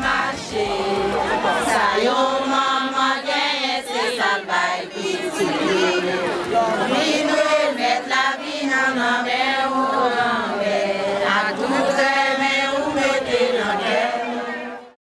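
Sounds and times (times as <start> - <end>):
crowd singing long held notes: 0.0 - 15.0.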